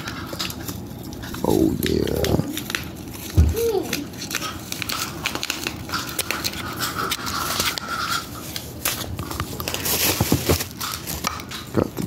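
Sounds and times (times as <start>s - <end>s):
bubble wrap crinkling: 0.4s - 12.0s.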